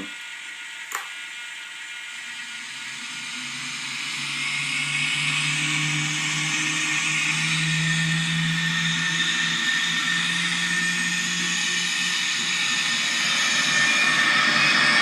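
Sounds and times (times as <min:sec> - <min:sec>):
simulated jet turbine spool-up: 0:00.0 - 0:15.0.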